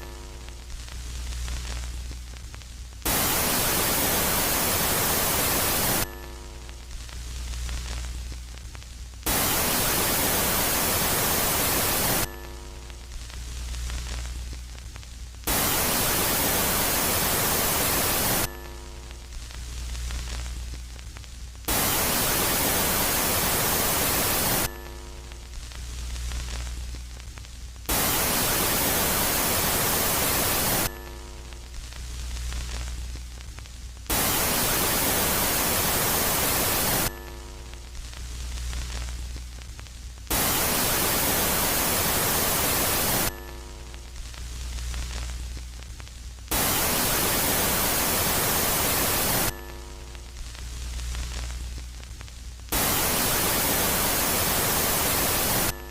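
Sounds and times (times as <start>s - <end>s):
low hum with faint tones: 0.0s - 55.9s
static hiss bursts: 0.0s - 55.9s.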